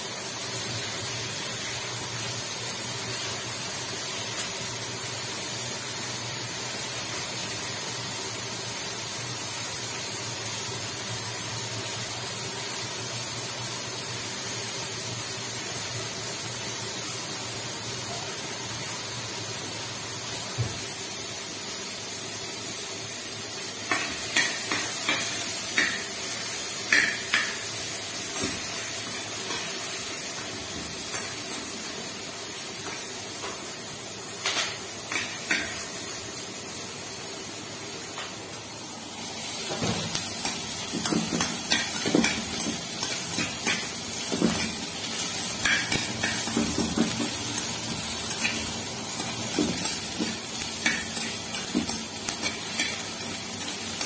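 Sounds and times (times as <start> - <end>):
oil sizzling in a frying pan: 0.0 - 54.0.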